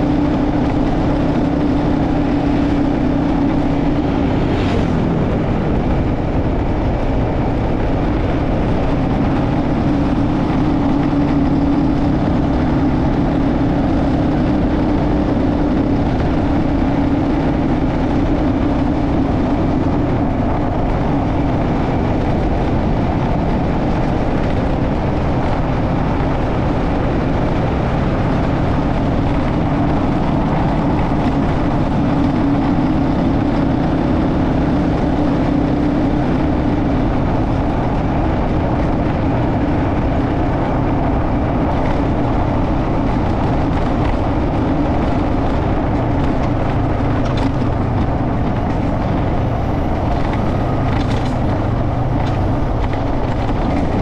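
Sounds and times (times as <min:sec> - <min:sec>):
motorcycle engine and road rumble: 0:00.0 - 0:54.0.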